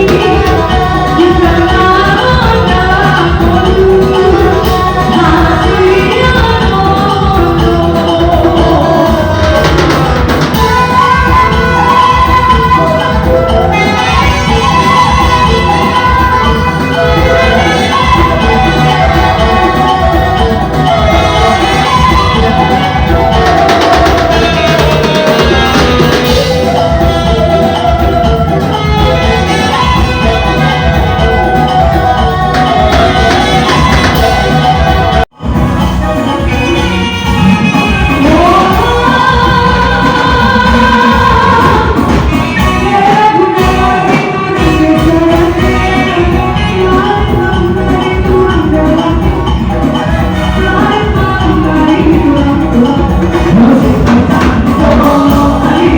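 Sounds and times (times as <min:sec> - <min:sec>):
drum beat: 0:00.0 - 0:44.0, 0:44.6 - 0:55.9
loud band music: 0:00.0 - 0:55.9
melodic lead line: 0:00.0 - 0:55.9
person singing: 0:00.0 - 0:55.9.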